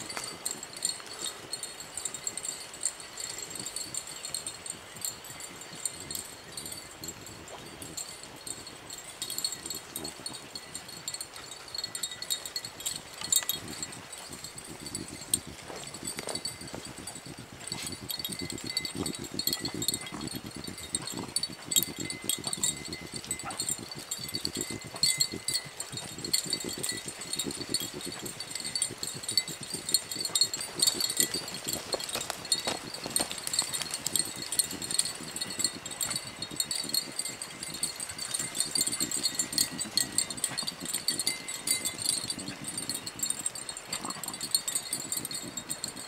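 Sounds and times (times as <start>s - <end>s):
dog collars jingling: 0.0s - 46.0s
high light tinkling: 0.0s - 46.0s.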